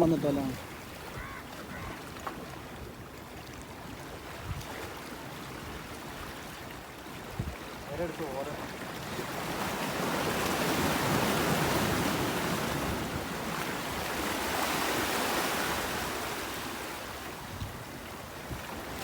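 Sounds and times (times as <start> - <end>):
sea waves washing: 3.7 - 19.0.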